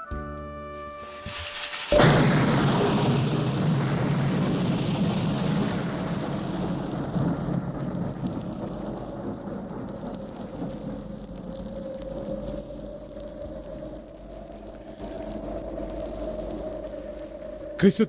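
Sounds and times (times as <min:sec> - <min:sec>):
thunder crack and rumble: 0:01.2 - 0:18.0.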